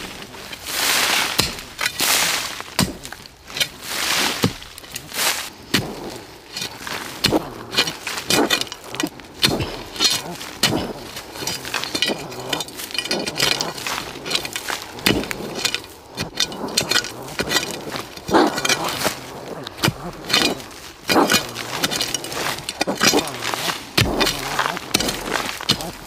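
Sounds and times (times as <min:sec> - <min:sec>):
metal blade chopping into soil: 0:00.0 - 0:26.0.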